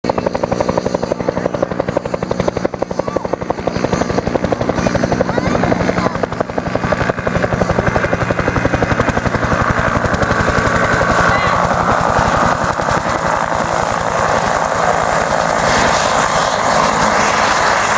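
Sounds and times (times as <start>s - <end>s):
helicopter engine tone: 0.0s - 17.9s
helicopter rotor chopping: 0.0s - 17.9s.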